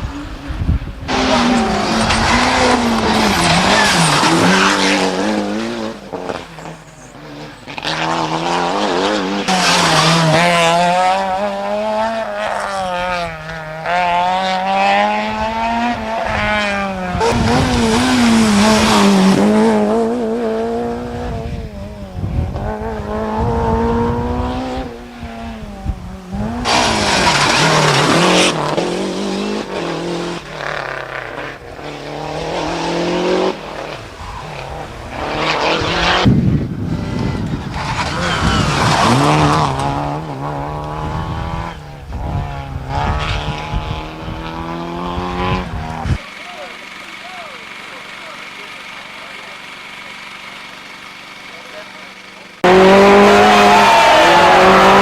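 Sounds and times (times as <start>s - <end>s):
rally car engines revving: 0.0s - 55.0s
tyre noise on road: 0.0s - 55.0s.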